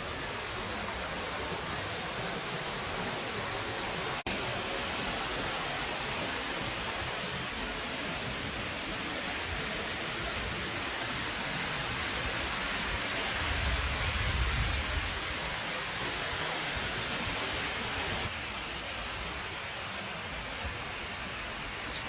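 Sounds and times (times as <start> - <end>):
fast-flowing stream rushing: 0.0 - 22.0.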